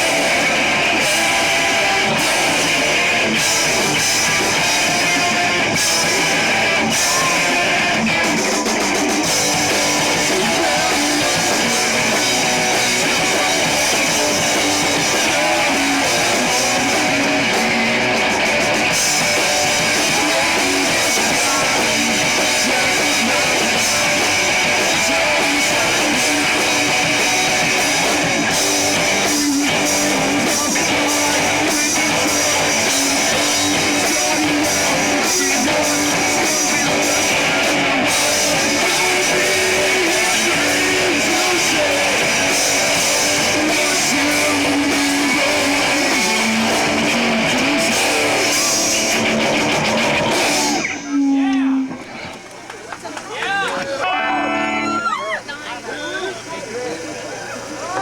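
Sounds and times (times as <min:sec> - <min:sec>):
drum kit: 0:00.0 - 0:52.4
distorted electric guitars: 0:00.0 - 0:52.7, 0:53.9 - 0:55.6.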